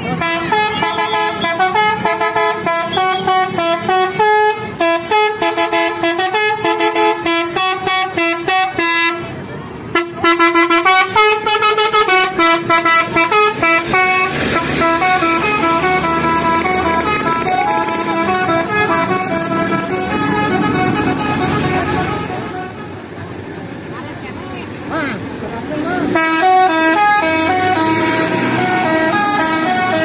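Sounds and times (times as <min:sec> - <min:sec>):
musical air horn playing a tune: 0:00.1 - 0:09.3, 0:09.9 - 0:23.0, 0:26.2 - 0:30.0.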